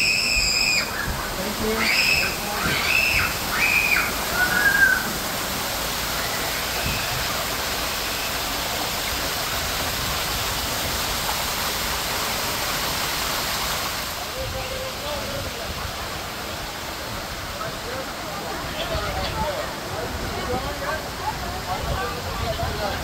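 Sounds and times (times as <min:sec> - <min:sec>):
rush of falling water: 0:00.0 - 0:23.0.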